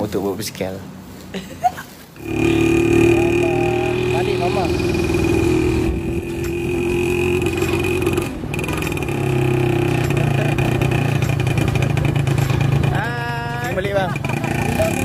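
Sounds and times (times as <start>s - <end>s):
high whine: 2.2s - 15.0s
small motorcycle engine running: 2.2s - 15.0s.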